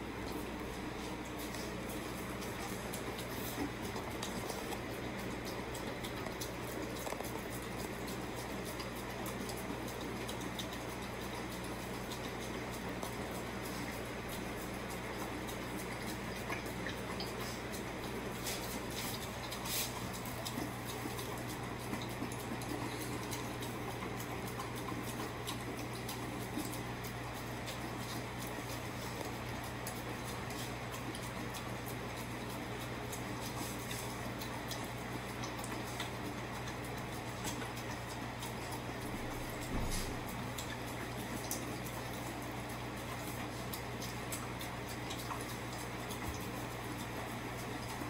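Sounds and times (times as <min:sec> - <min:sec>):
puppy eating from steel bowl: 0:00.0 - 0:48.0
steady low hum: 0:00.0 - 0:48.0.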